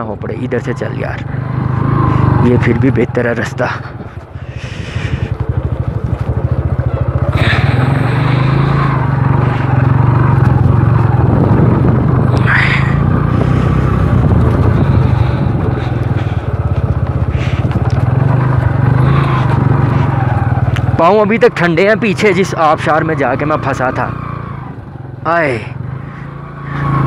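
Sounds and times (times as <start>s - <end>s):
motorcycle engine running: 0.0s - 27.0s
motorcycle rattling over stones: 1.2s - 23.2s.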